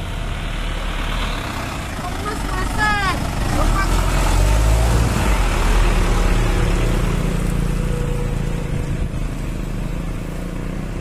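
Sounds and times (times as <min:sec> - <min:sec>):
diesel truck engine pulling uphill: 0:00.0 - 0:11.0.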